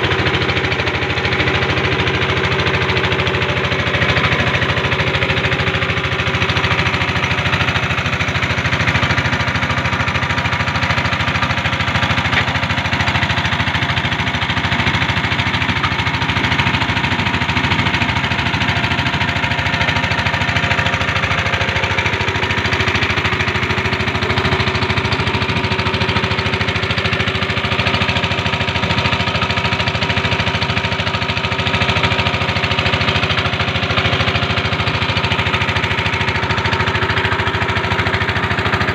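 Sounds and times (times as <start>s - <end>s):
boat engine drone: 0.0s - 38.9s.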